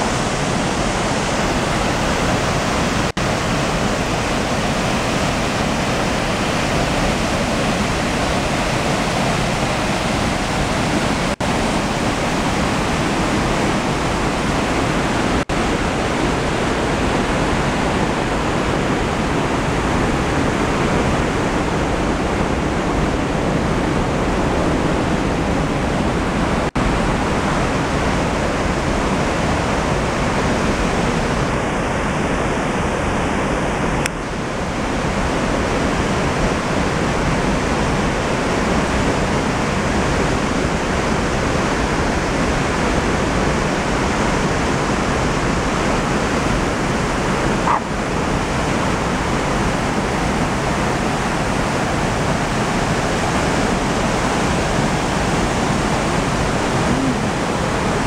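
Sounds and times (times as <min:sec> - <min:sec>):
creek rushing over boulders: 0:00.0 - 0:58.0.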